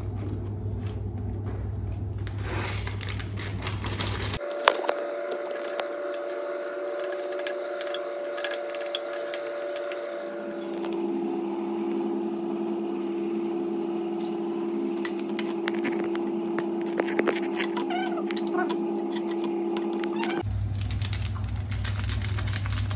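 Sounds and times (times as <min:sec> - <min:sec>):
induction cooktop humming: 0:00.0 - 0:22.9.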